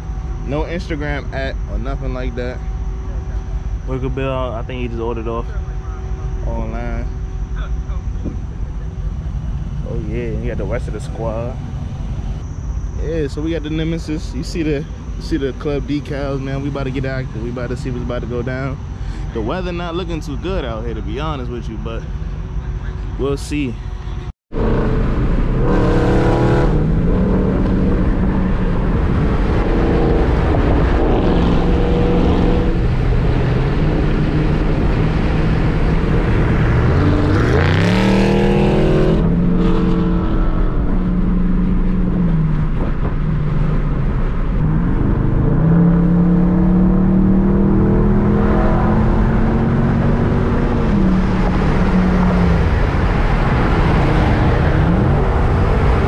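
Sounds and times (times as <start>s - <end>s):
car engine revving: 0.0s - 23.8s, 24.5s - 56.0s
road and wind noise: 0.0s - 56.0s.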